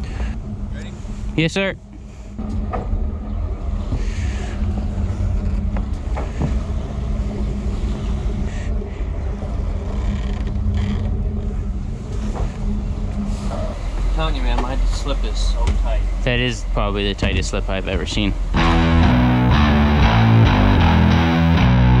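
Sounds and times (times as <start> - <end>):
boat engines idling: 0.0 - 21.6.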